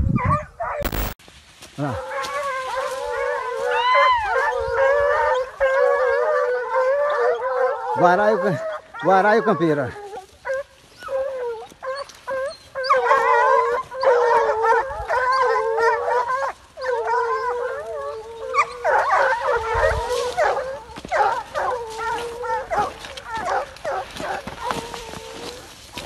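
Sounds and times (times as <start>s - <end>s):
hounds baying: 1.8s - 26.0s.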